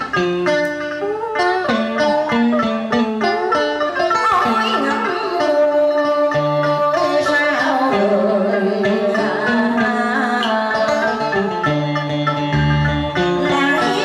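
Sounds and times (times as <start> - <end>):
plucked-string accompaniment: 0.0 - 14.0
woman singing ornamented notes: 1.0 - 12.0, 13.0 - 14.0.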